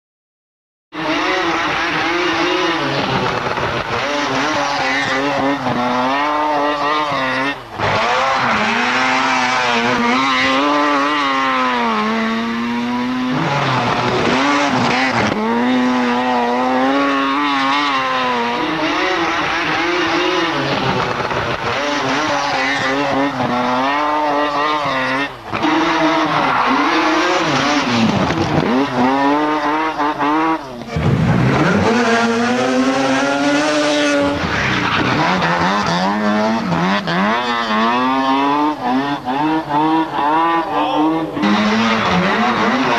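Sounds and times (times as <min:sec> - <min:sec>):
rally car engine revving: 0:00.9 - 0:42.9.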